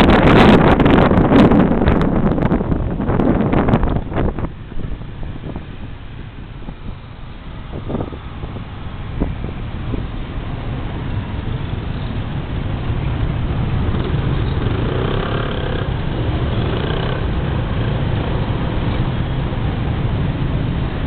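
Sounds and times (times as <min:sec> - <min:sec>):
scooter engine and road rumble: 0:00.0 - 0:21.0
wind rush: 0:00.0 - 0:21.0.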